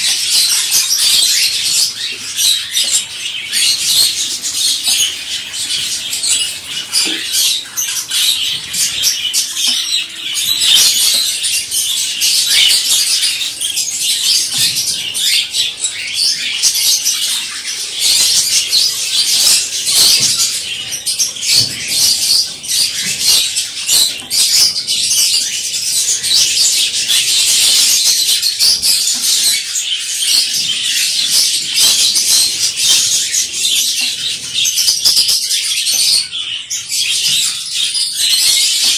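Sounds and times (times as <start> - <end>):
caged birds chirping: 0.0 - 38.9.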